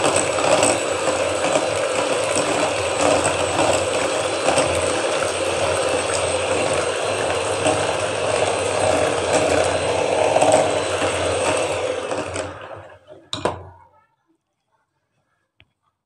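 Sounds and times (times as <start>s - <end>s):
electric hand mixer whirring: 0.0s - 13.6s.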